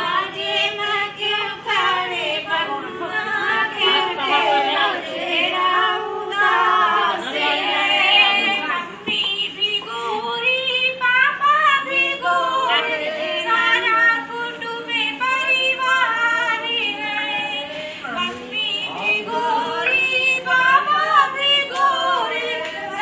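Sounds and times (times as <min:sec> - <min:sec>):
women singing unaccompanied: 0:00.0 - 0:23.0.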